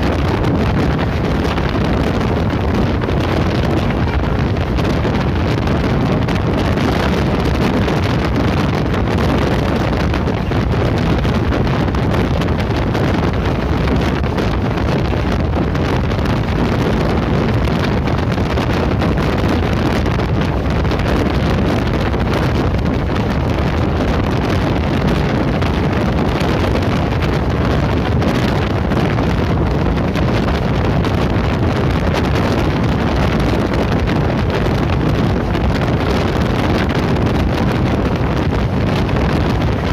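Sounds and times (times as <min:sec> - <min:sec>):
train rumbling on track: 0:00.0 - 0:39.9
wind buffeting microphone: 0:00.0 - 0:39.9.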